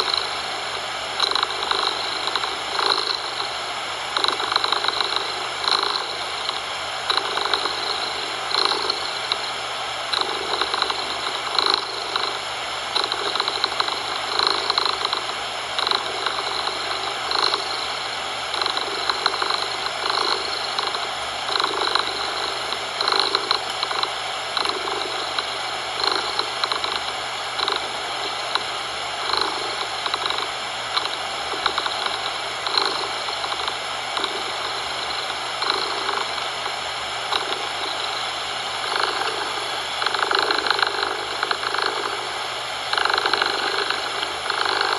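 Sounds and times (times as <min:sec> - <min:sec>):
cat purring: 0:00.0 - 0:00.6, 0:01.2 - 0:44.9.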